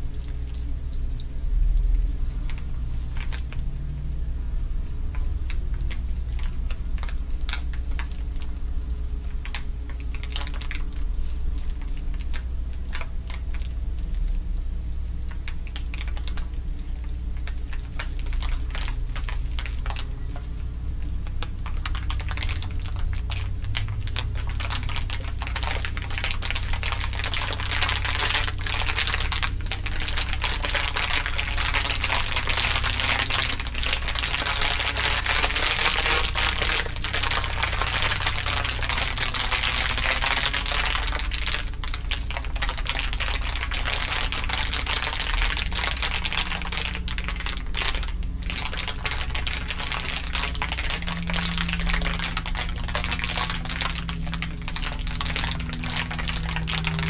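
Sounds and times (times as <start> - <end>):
crinkly material crackling: 0.0 - 3.8, 5.1 - 57.0
steady low hum: 0.0 - 57.0.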